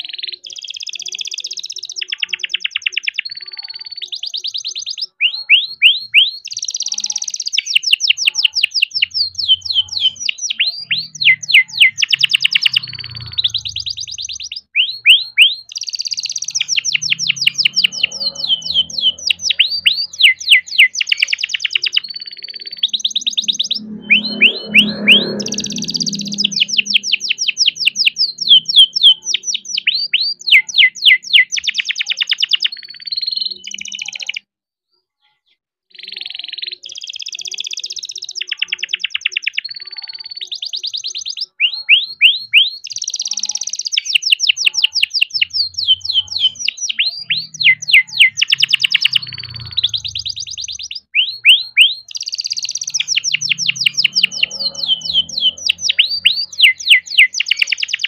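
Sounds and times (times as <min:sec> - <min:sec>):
canary singing trills: 0:00.0 - 0:34.5, 0:35.9 - 0:58.0.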